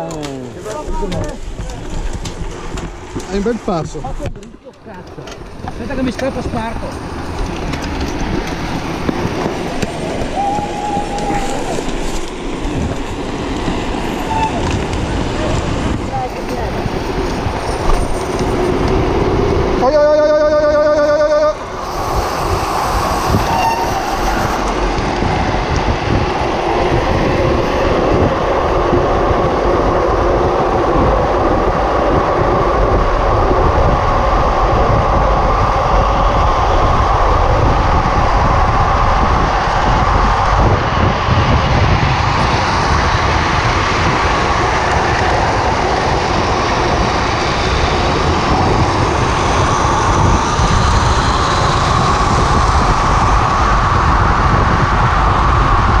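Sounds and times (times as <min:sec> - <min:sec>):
wheels rolling on asphalt: 0:00.0 - 0:56.0
wind rushing over microphone: 0:00.0 - 0:56.0.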